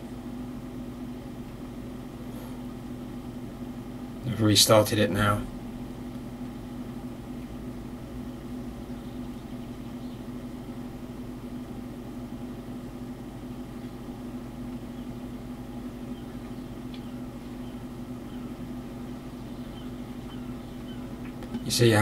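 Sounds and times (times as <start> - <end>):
computer fans humming: 0.0 - 22.0.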